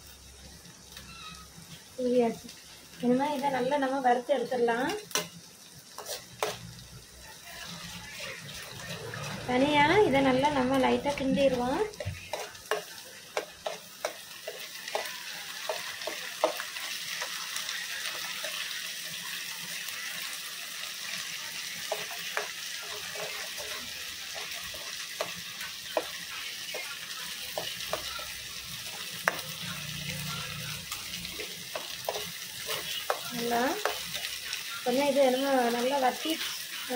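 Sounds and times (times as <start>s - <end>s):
eggs sizzling in a pan: 0.0s - 36.9s.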